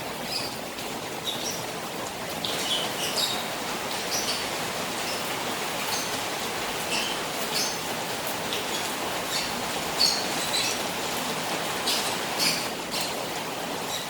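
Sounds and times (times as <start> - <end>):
rain falling on a pond: 0.0 - 14.0.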